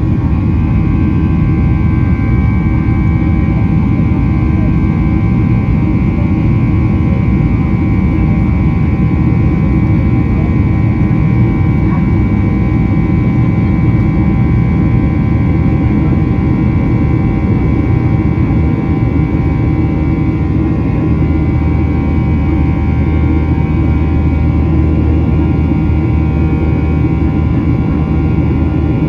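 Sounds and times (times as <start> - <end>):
jet engine whine: 0.0 - 29.0.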